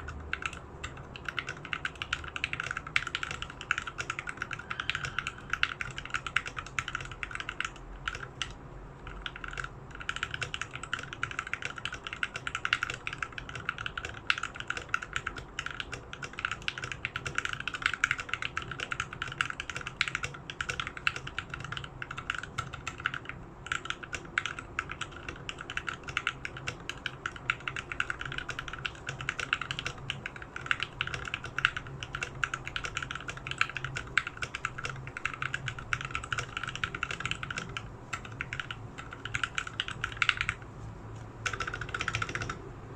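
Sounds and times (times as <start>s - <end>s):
mechanical keyboard typing: 0.0s - 40.6s, 41.2s - 42.7s.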